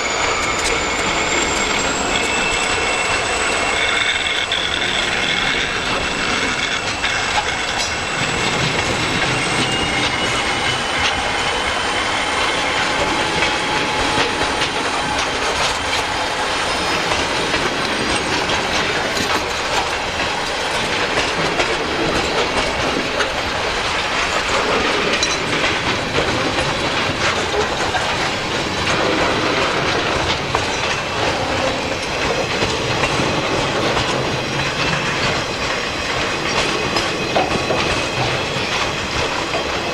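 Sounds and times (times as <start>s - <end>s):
freight train rumbling past: 0.0s - 39.9s
high wheel squeal: 0.0s - 39.9s
wheels clacking over rail joints: 0.0s - 39.9s.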